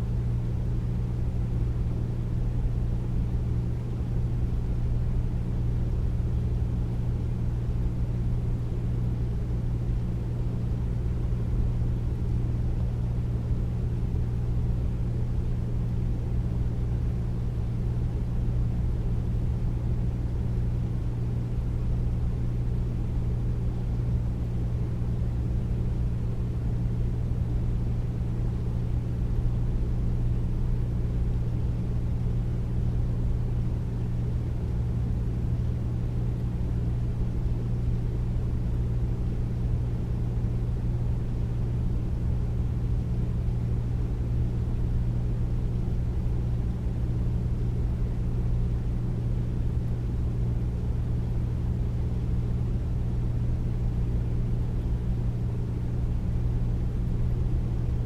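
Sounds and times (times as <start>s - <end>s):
air conditioner humming: 0.0s - 58.0s.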